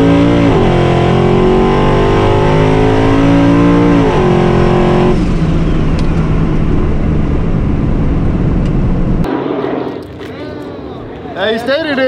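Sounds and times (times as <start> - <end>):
truck engine racing: 0.0 - 11.1.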